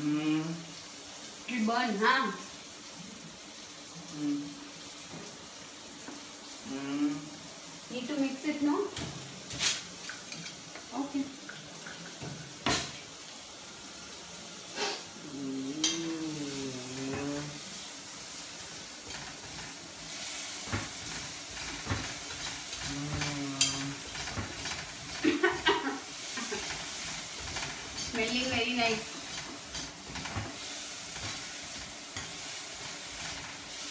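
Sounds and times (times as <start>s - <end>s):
onions sizzling in hot oil: 0.0s - 33.9s.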